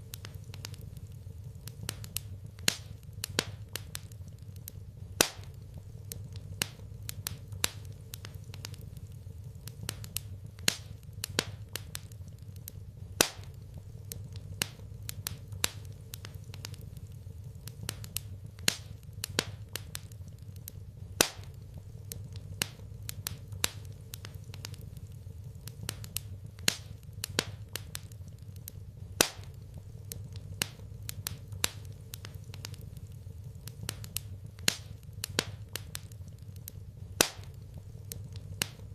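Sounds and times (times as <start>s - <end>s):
steady low hum: 0.0s - 38.9s
wood fire crackling and popping: 0.0s - 38.9s.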